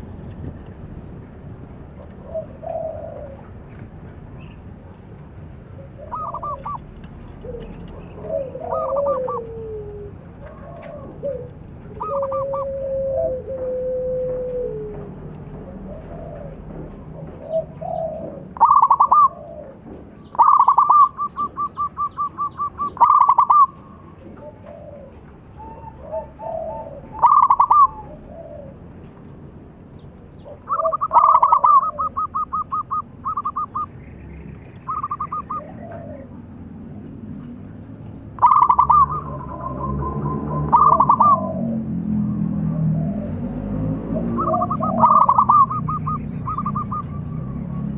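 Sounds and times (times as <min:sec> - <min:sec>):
doves cooing: 0:01.8 - 0:34.0, 0:34.8 - 0:47.9.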